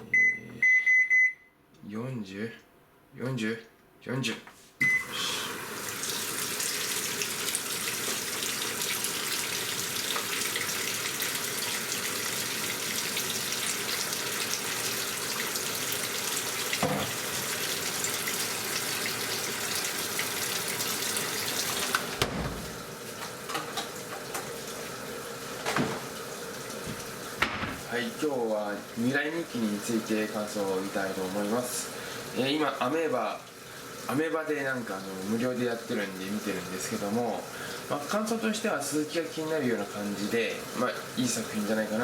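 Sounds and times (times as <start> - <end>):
water filling washing machine tub: 4.8 - 42.0.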